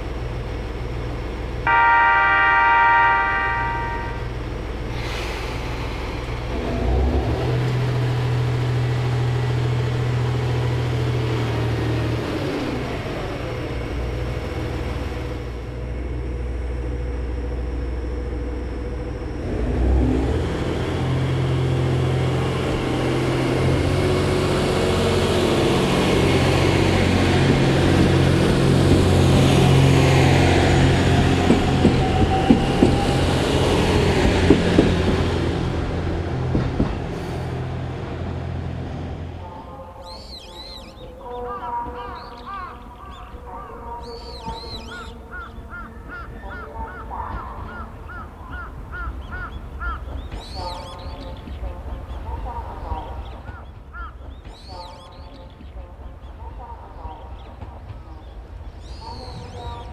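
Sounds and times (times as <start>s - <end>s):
diesel railcar engine droning: 0.0s - 59.9s.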